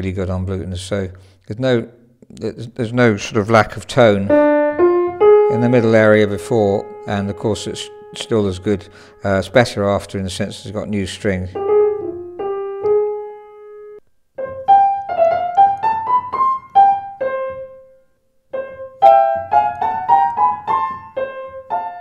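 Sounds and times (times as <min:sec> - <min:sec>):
grand piano notes: 0:02.9 - 0:22.0.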